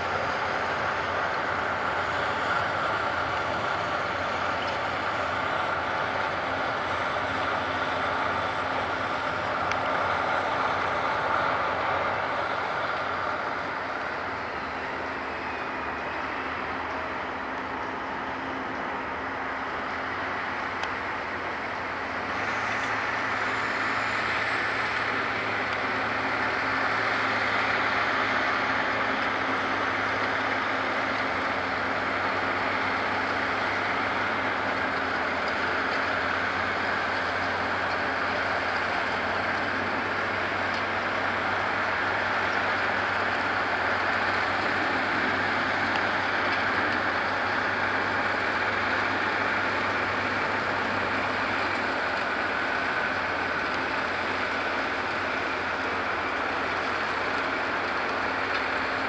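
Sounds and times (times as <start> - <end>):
diesel tractor running under load: 0.0 - 59.0.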